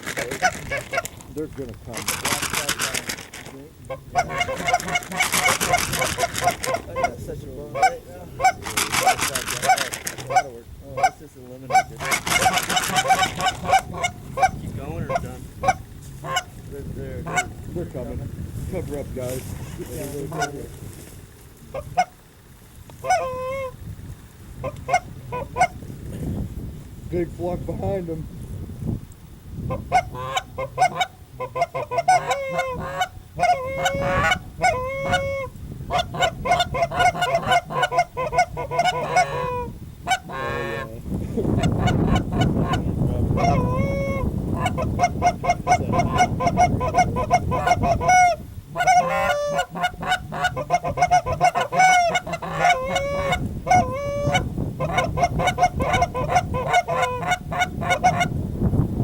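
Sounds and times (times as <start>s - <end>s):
geese honking: 0.0s - 1.2s, 1.9s - 16.6s, 17.2s - 17.7s, 19.4s - 20.8s, 23.0s - 23.8s, 24.6s - 25.8s, 29.7s - 58.4s.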